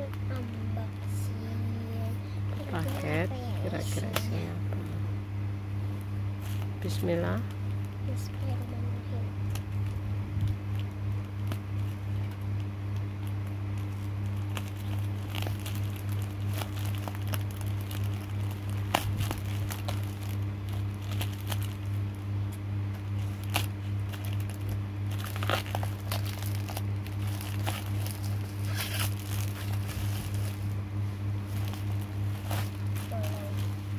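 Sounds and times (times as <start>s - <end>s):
plastic bag and tape crinkling: 0.0s - 4.5s, 9.4s - 30.8s, 31.4s - 33.9s
steady low hum: 0.0s - 33.9s.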